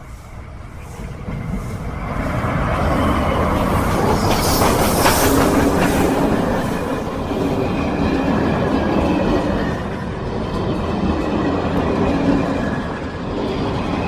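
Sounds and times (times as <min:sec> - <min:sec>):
steam train passing: 0:00.0 - 0:14.0
wheels clattering on rails: 0:00.9 - 0:14.0.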